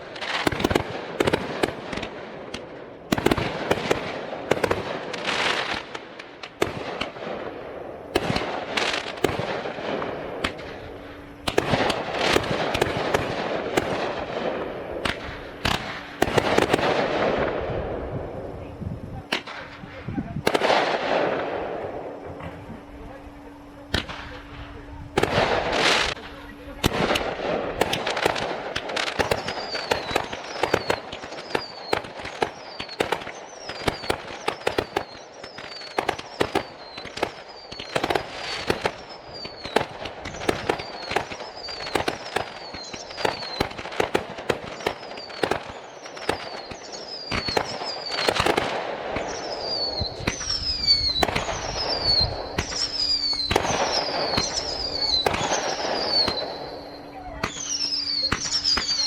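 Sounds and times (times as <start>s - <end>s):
fireworks bangs and crackles: 0.0s - 59.0s
fireworks whistles falling in pitch: 0.0s - 59.0s.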